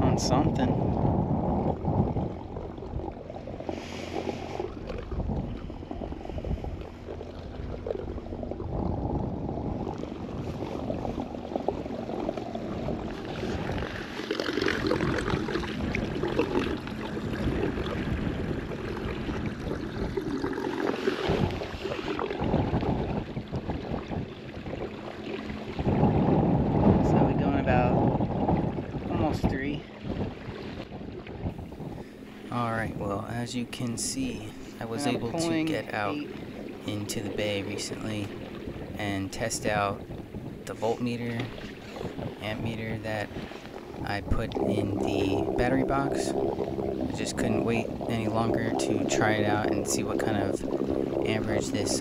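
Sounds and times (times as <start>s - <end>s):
choppy water against kayak hull: 0.0s - 52.0s
wind buffeting microphone: 0.0s - 52.0s.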